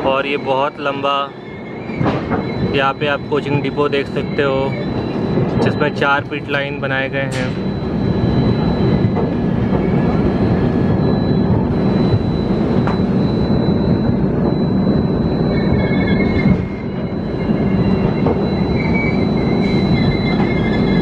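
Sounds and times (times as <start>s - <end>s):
high wheel squeal: 0.0s - 6.4s, 7.0s - 21.0s
train wheels rumbling on rails: 0.0s - 21.0s.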